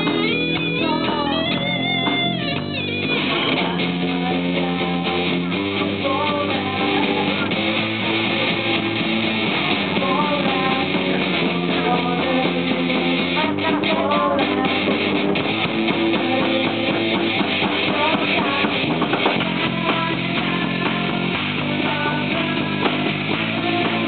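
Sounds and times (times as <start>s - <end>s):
bass guitar: 0.0s - 24.0s
high sustained guitar notes: 0.0s - 24.0s.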